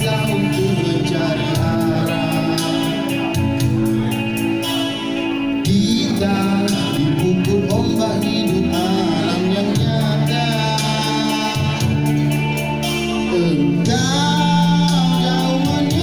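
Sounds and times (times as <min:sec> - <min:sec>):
man singing into microphone: 0:00.0 - 0:03.8, 0:05.6 - 0:12.4, 0:13.1 - 0:16.0
instrumental music with beat: 0:00.0 - 0:16.0.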